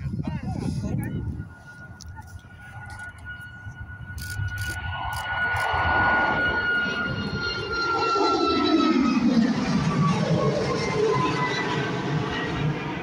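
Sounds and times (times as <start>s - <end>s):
jet engine whine: 0.0s - 13.0s
jet engines rumbling at takeoff: 0.0s - 13.0s.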